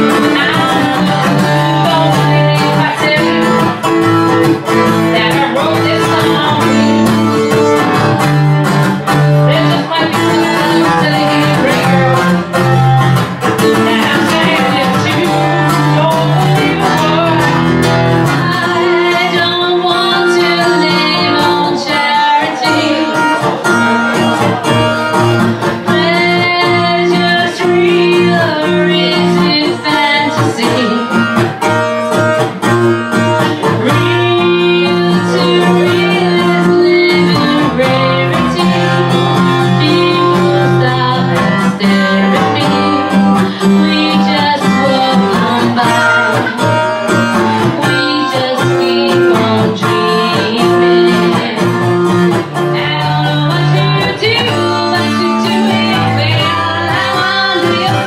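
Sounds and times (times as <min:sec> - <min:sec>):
woman singing: 0:00.0 - 0:32.0, 0:33.1 - 0:58.0
electric guitar: 0:00.0 - 0:58.0.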